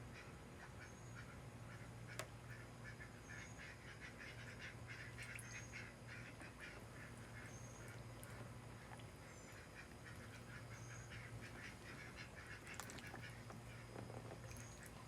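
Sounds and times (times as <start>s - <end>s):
steady low hum: 0.0s - 15.0s
ducks quacking softly: 0.1s - 15.0s.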